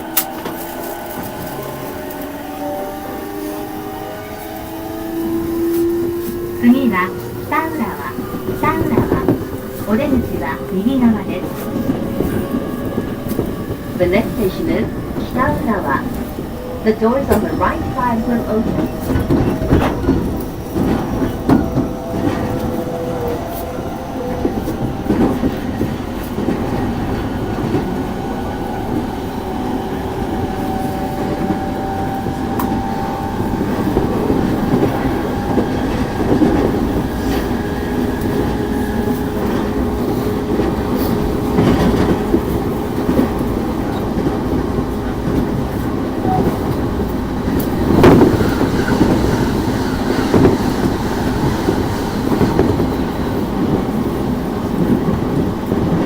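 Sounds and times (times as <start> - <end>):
train wheels rumbling on rails: 0.0 - 56.0
clacks at rail joints: 4.4 - 56.0.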